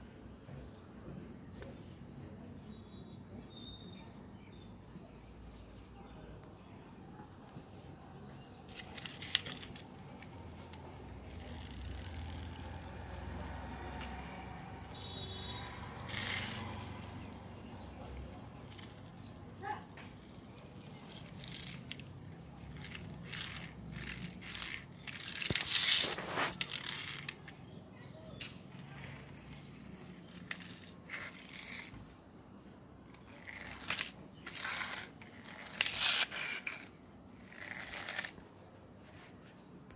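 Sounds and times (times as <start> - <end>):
toy wheels rolling on concrete: 7.2 - 39.5.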